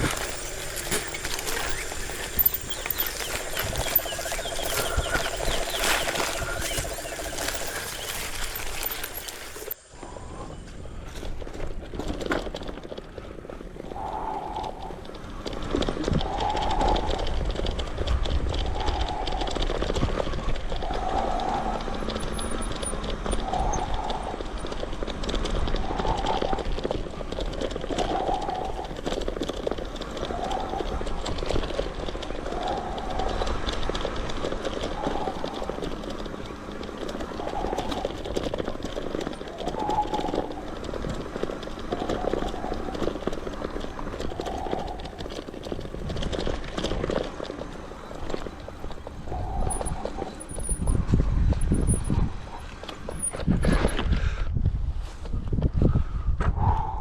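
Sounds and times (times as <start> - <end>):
bicycle rattling on dirt trail: 0.0 - 56.2
wind on microphone: 0.0 - 57.0.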